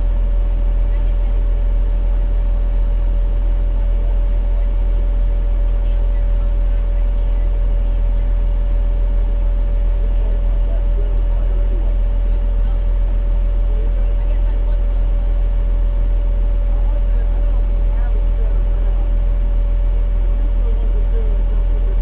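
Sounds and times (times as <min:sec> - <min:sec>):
fire engine diesel running: 0:00.0 - 0:22.0.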